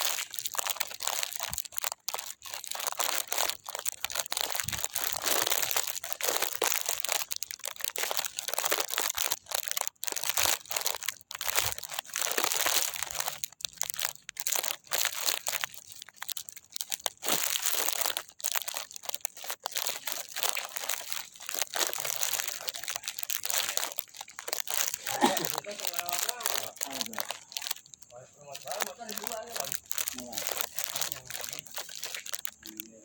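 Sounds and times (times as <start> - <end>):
close rustling and crackling: 0.0 - 33.0.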